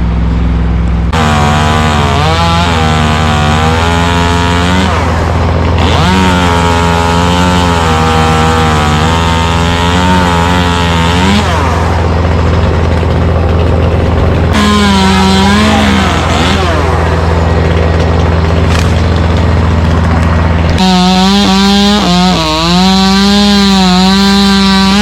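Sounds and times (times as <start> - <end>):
low engine hum: 0.0 - 8.6, 10.6 - 23.0
chainsaw cutting tree limbs: 1.1 - 25.0.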